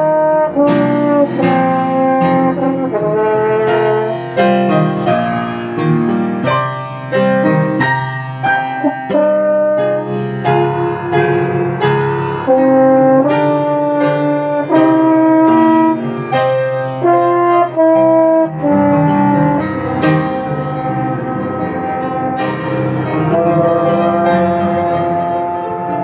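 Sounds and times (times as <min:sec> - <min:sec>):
french horn melody: 0:00.0 - 0:26.0
piano: 0:00.0 - 0:26.0.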